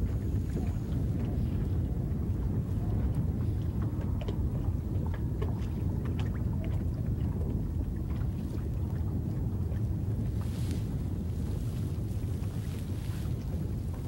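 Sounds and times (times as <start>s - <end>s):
light ticks and splashes: 0.0s - 14.0s
water slapping boat hull: 0.0s - 14.0s
wind rumble on microphone: 0.0s - 14.0s.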